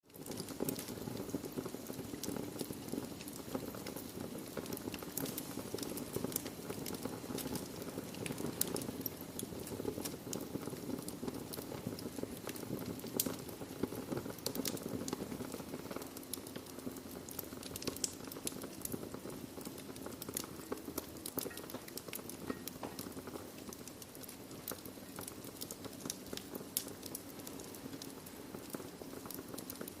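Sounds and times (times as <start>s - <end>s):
fire crackling and popping: 0.0s - 30.0s
fire flames rushing: 0.1s - 30.0s.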